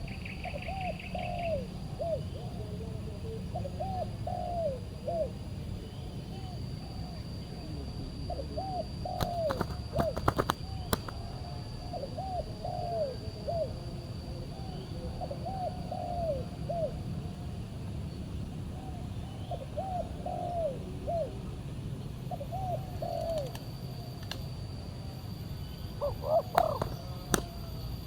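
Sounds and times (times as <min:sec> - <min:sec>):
dove cooing: 0:00.0 - 0:07.2, 0:08.2 - 0:17.8, 0:18.6 - 0:24.4, 0:25.0 - 0:28.0.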